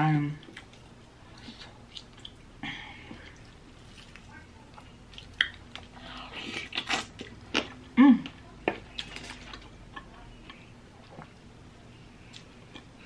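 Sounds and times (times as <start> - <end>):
person chewing: 0.4 - 2.4, 3.0 - 11.4, 12.2 - 13.0.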